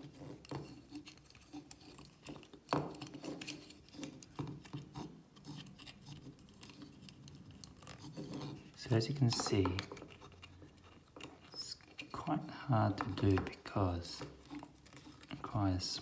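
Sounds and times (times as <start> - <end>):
cord rubbing against wood: 0.0 - 16.0
soft clicks of wooden parts: 0.2 - 16.0.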